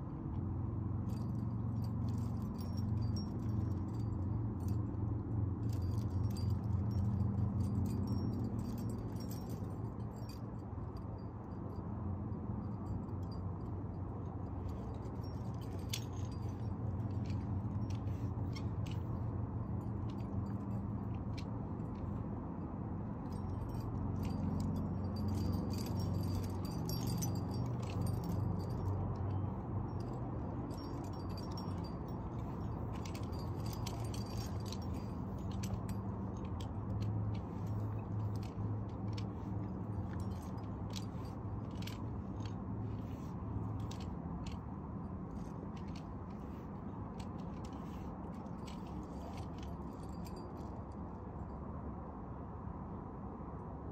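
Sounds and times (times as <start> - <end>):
metal climbing gear clinking: 0.0 - 51.8.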